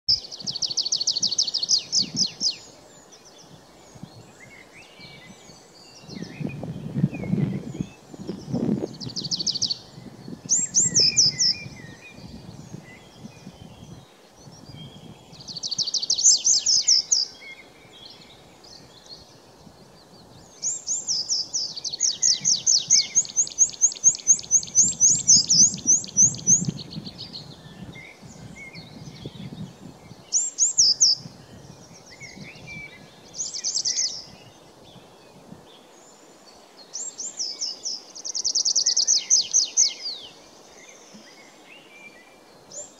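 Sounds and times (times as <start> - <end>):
bird singing: 0.1 - 42.9.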